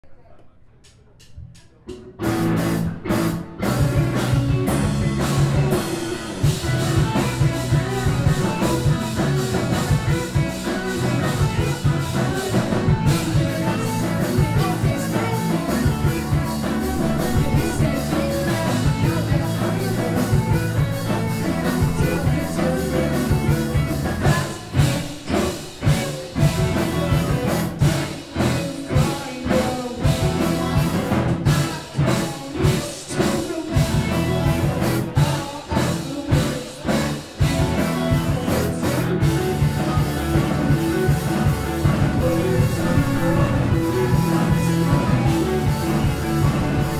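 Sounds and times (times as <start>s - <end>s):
drum kit: 1.2s - 46.9s
electric guitar: 2.0s - 46.9s.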